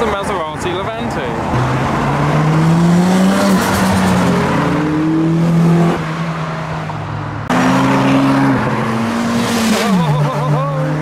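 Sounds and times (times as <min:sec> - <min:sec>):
car engines accelerating: 0:00.0 - 0:11.0.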